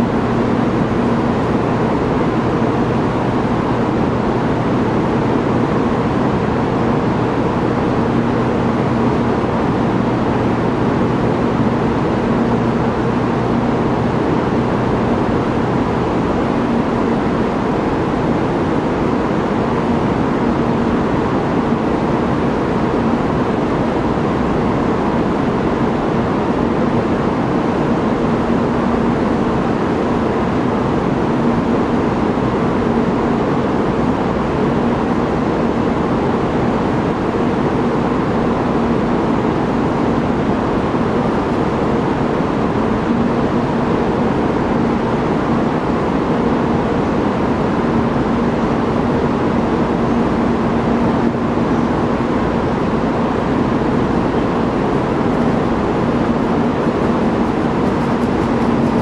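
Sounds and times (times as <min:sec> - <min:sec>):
faint low hum: 0:00.0 - 0:59.0
station platform background noise: 0:02.1 - 0:59.0.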